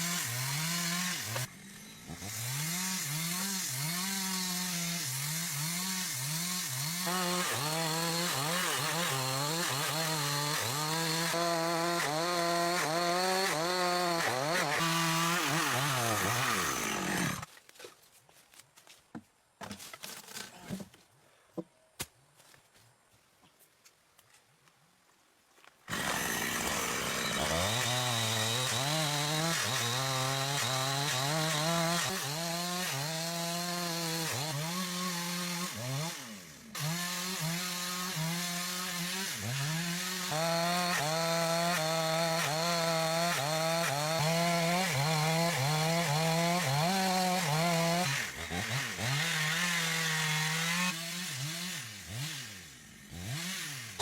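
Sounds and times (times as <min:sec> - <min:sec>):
chainsaw cutting timber: 0:00.0 - 0:17.5, 0:25.9 - 0:54.0.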